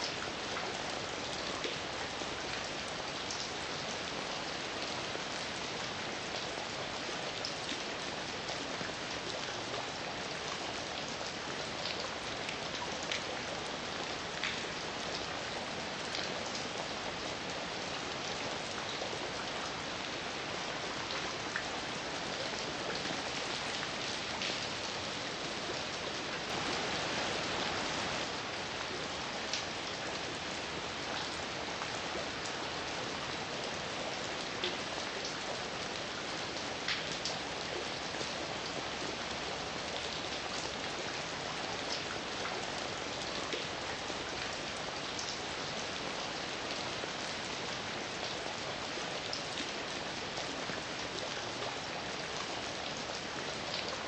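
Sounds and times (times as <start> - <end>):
heavy rain falling: 4.8 - 48.4.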